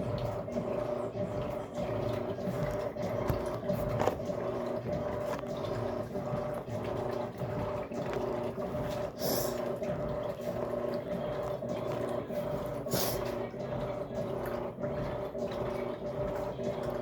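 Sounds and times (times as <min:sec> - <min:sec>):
washing machine humming: 0:00.0 - 0:17.0
water sloshing: 0:00.0 - 0:17.0.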